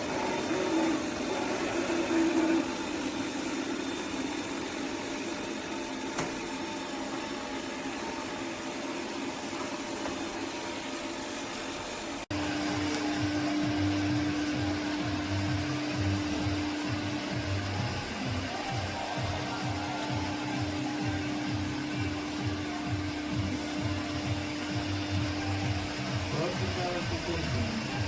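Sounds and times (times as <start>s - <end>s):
robot vacuum whirring: 0.0s - 28.0s
steady hum: 0.0s - 28.0s.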